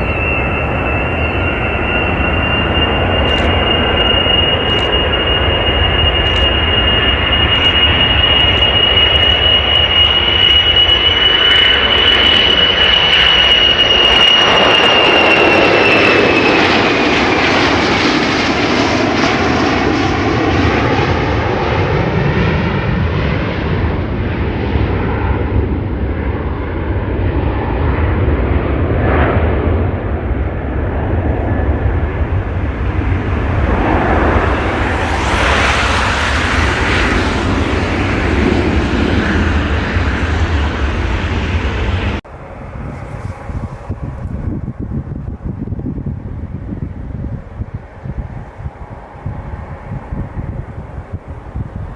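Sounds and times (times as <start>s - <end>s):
deep jet rumble: 0.0s - 51.9s
jet engine whine: 0.0s - 51.9s.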